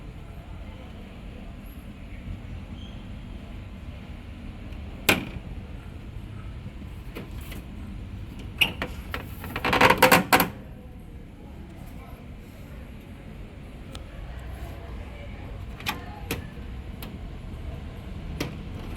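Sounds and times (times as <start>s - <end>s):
air conditioner rumbling: 0.0s - 18.9s.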